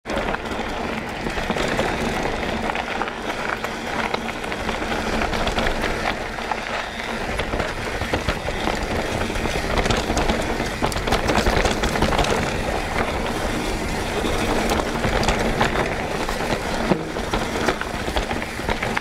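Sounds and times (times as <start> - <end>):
bike clicks and rattles: 0.0 - 19.0
bike tyres rolling on dirt: 0.0 - 19.0.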